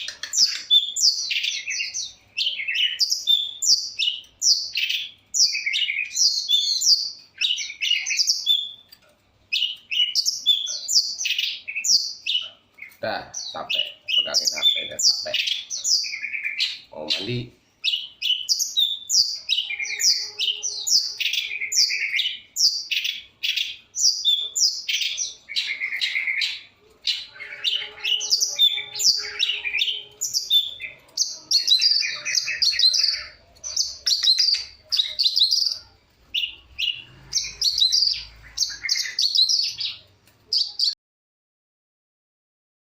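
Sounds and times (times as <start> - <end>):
bird singing chirps and trills: 0.0 - 41.0.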